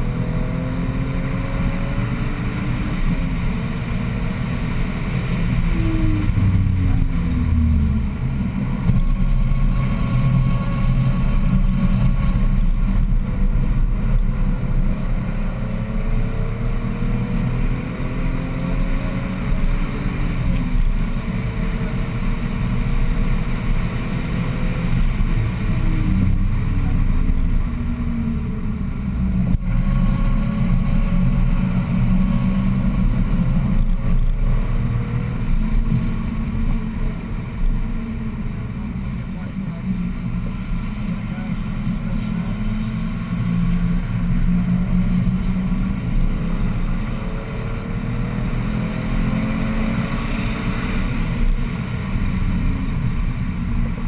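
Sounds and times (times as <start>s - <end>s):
car engine revving through gears: 0.0s - 54.0s
wind and tyre noise: 0.0s - 54.0s.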